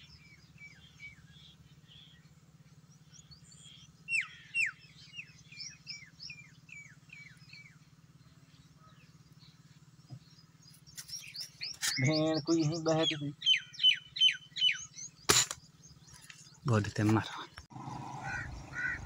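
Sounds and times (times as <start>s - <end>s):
small bird chirping: 0.0s - 16.8s.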